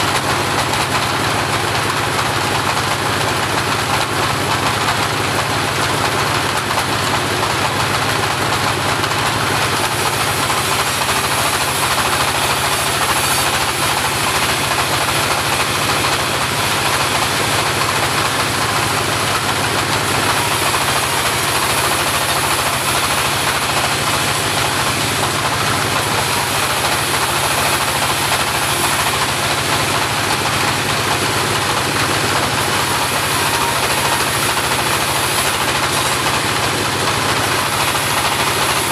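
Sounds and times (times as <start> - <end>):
bandsaw running: 0.0 - 38.9.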